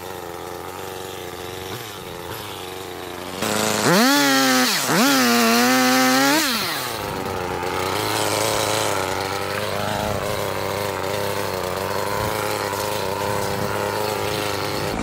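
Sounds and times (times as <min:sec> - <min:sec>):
chainsaw engine idling: 0:00.0 - 0:15.0.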